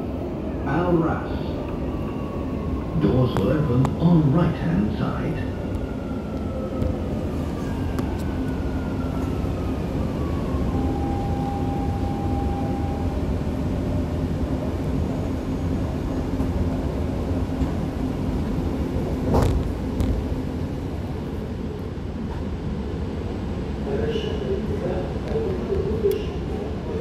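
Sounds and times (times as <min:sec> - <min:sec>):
train running rumble: 0:00.0 - 0:27.0.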